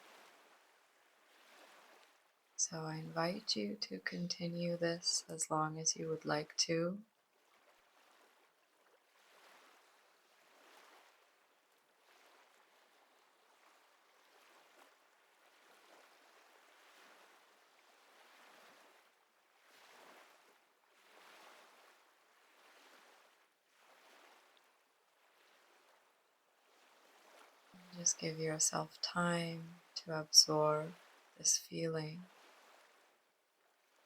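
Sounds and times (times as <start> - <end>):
faint ocean waves: 0.0 - 34.0.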